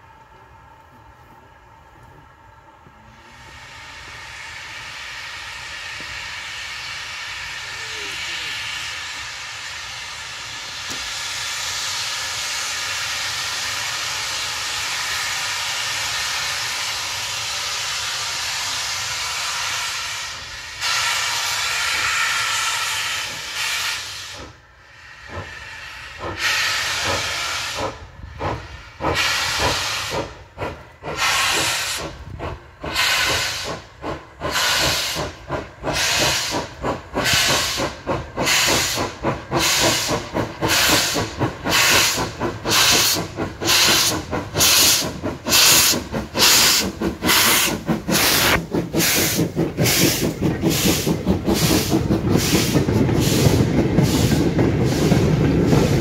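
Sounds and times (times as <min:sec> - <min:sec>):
steam locomotive chuffing: 0:00.0 - 0:56.0
steam locomotive hissing steam: 0:00.0 - 0:56.0.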